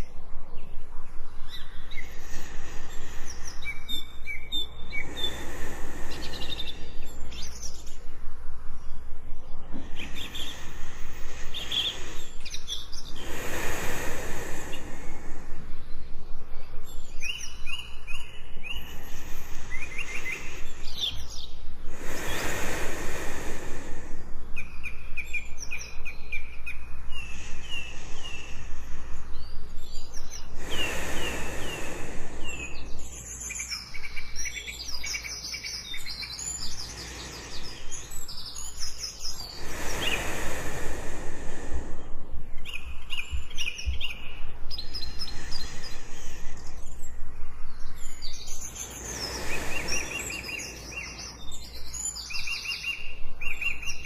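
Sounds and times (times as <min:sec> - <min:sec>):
steady low hum: 0:00.0 - 0:34.7, 0:36.5 - 0:52.0
birds chirping: 0:00.0 - 0:54.0
breath whoosh: 0:01.7 - 0:33.4, 0:36.6 - 0:52.6.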